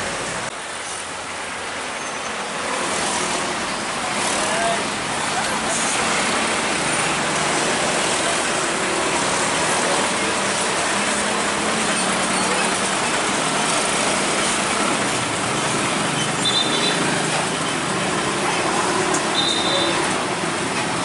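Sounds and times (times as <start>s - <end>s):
vehicle engines: 0.0s - 21.0s.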